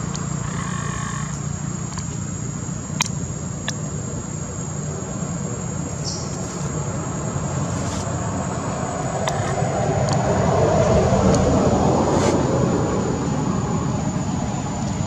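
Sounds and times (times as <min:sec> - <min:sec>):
high steady whine: 0:00.0 - 0:15.0
low rumbling noise: 0:00.0 - 0:15.0.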